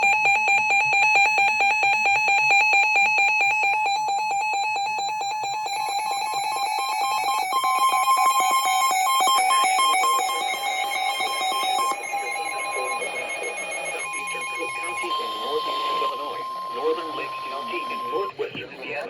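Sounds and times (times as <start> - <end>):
alert tones: 0.0 - 18.3
high-pitched pulsing alarm tone: 0.0 - 18.3.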